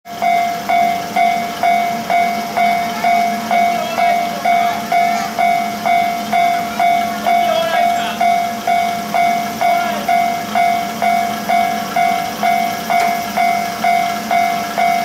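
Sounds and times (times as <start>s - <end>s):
diesel railcar engine idling: 0.1s - 15.0s
level crossing warning bell: 0.1s - 15.0s.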